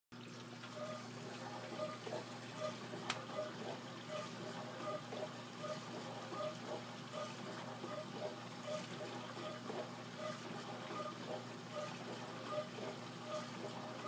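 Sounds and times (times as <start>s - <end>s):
dishwasher motor hum: 0.2s - 14.0s
water spraying in dishwasher: 0.4s - 14.0s.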